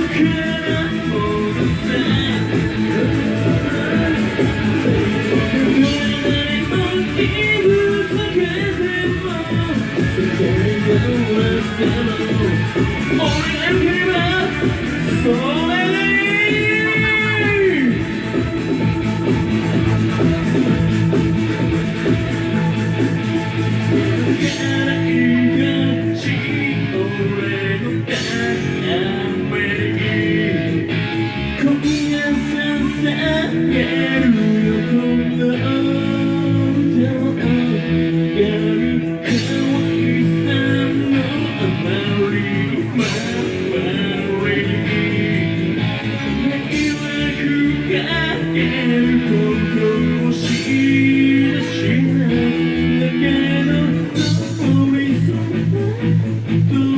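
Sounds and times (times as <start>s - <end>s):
bass guitar: 0.0s - 56.9s
drums with cymbal hits: 0.0s - 56.9s
electric guitar: 0.0s - 56.9s
person singing: 0.0s - 56.9s.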